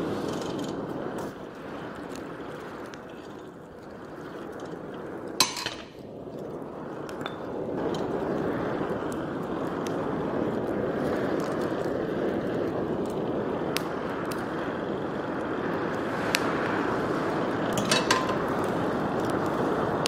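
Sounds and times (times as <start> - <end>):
fire popping and crackling: 0.0 - 20.0
forge blower air rush: 0.0 - 20.0.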